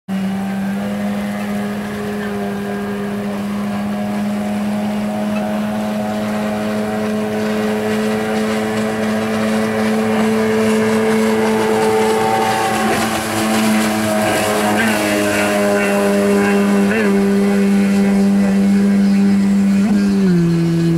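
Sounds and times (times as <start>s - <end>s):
jet ski engine droning: 0.1s - 20.9s.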